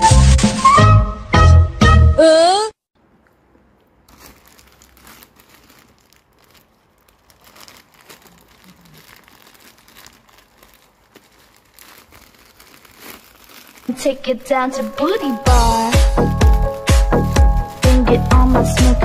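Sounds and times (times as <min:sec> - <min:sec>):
crinkling and rustling: 0:03.0 - 0:19.0.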